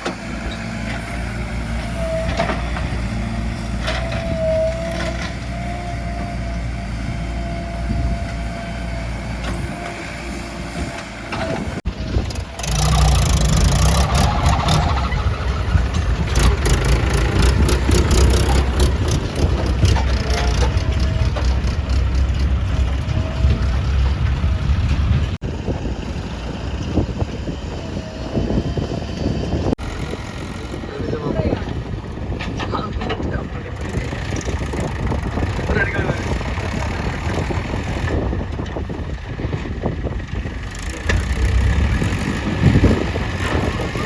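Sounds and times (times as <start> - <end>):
diesel engines running: 0.0 - 44.0
rapid engine clattering: 0.0 - 44.0.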